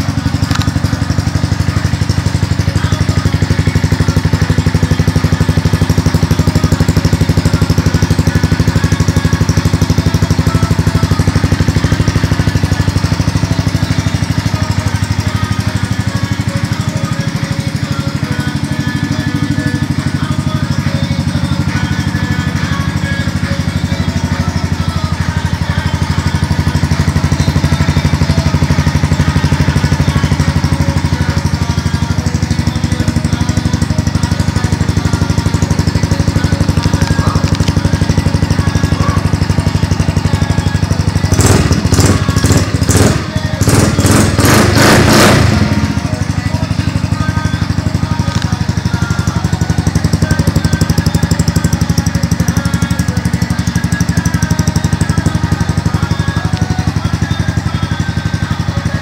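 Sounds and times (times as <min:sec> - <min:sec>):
scooter engine idling: 0:00.0 - 0:59.0.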